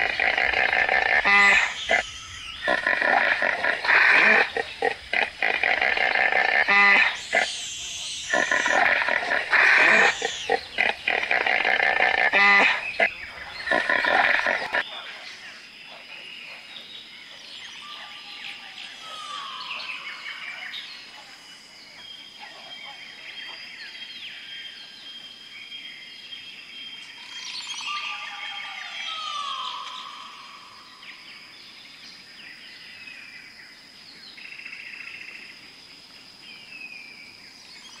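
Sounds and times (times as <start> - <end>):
birds singing and chirping: 0.0 - 35.4, 36.4 - 38.0.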